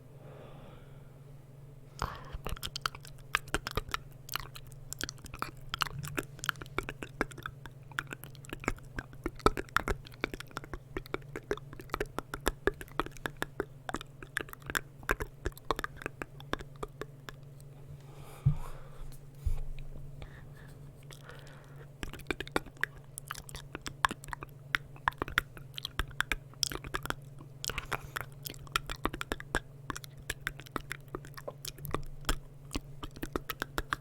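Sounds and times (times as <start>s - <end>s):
steady low hum: 0.0s - 34.0s
wet mouth clicks and smacks: 2.0s - 17.7s, 21.0s - 34.0s.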